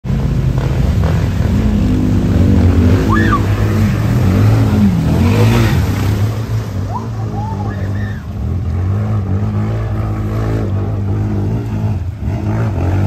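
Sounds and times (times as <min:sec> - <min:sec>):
water splashing and spraying: 0:00.0 - 0:13.0
quad engine revving: 0:00.1 - 0:13.0.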